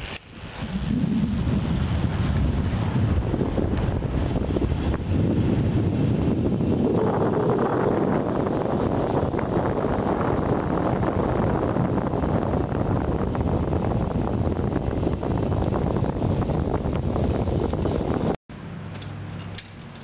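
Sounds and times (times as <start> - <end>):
wind buffeting microphone: 0.0 - 18.4.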